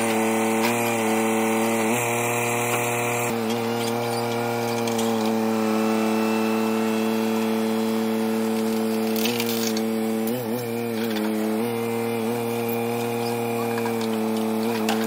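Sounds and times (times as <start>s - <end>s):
backhoe digging into compost: 0.0s - 15.0s
tractor engine at high revs: 0.0s - 15.0s.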